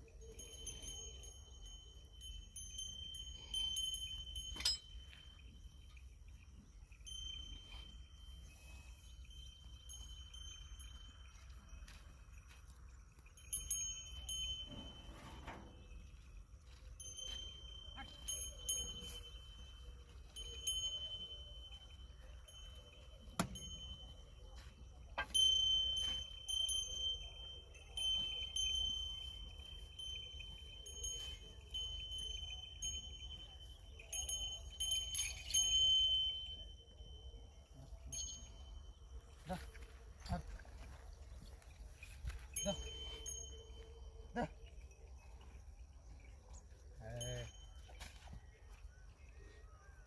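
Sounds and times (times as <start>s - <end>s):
metal bells ringing: 0.0s - 39.6s, 41.4s - 48.6s.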